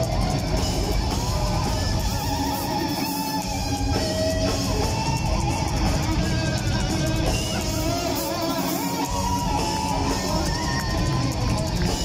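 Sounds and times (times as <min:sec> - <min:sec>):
bass and drums: 0:00.0 - 0:12.0
electric guitars playing melody: 0:00.0 - 0:12.0.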